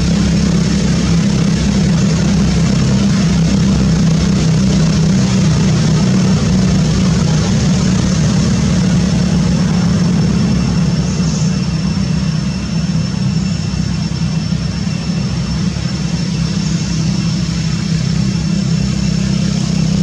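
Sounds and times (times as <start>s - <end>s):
low engine-like drone: 0.0s - 20.0s.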